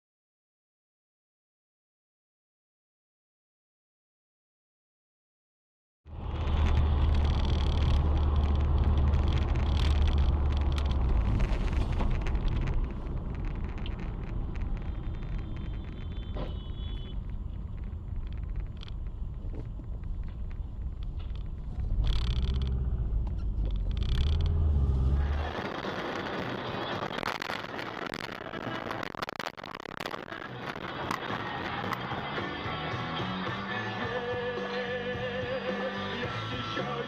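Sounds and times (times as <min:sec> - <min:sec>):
car engine and road rumble: 0:06.1 - 0:37.0.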